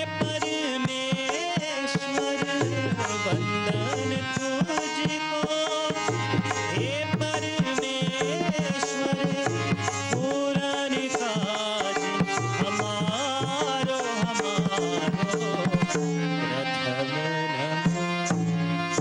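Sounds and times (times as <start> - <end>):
harmonium chords: 0.0 - 19.0
man singing: 0.0 - 19.0
tabla playing: 0.0 - 19.0.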